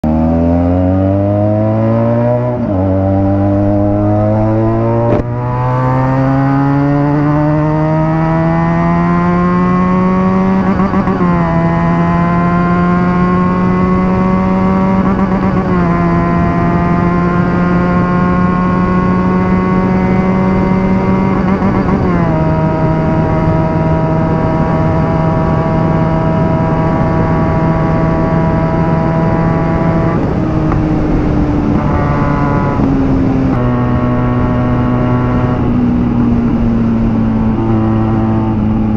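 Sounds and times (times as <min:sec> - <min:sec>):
motorcycle engine running hard: 0:00.0 - 0:38.9
wind noise: 0:01.1 - 0:38.9.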